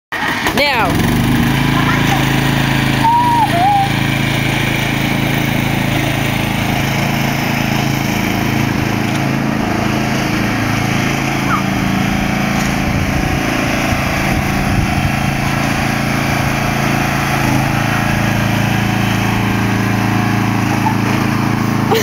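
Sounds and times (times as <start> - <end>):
lawn mower engine running: 0.1 - 22.0.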